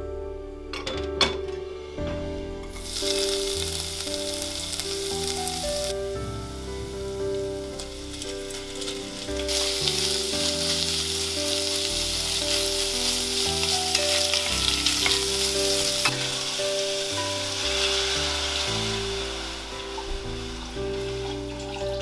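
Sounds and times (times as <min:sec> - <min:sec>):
soft background music: 0:00.0 - 0:22.0
meat sizzling in a pot: 0:02.6 - 0:22.0.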